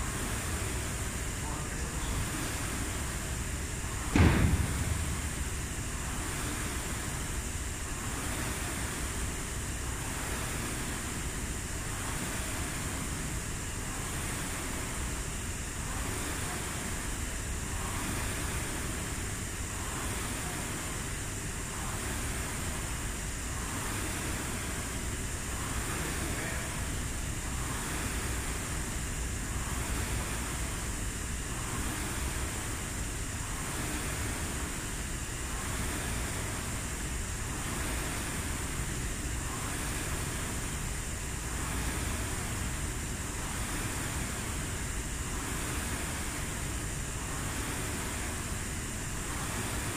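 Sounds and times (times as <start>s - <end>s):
rowing machine fan whooshing: 0.0s - 49.9s.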